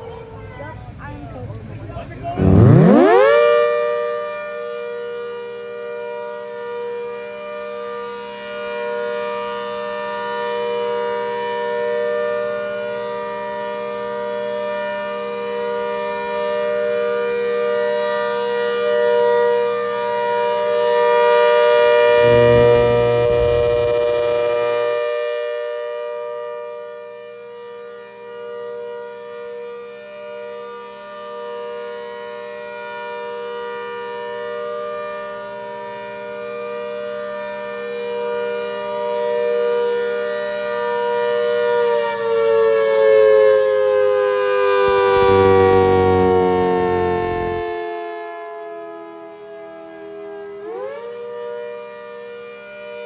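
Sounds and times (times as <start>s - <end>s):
electromechanical siren: 2.4s - 53.0s.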